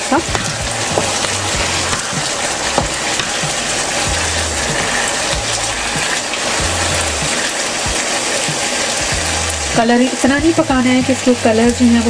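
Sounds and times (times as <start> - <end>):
stir-fry sizzling in pan: 0.0 - 12.0.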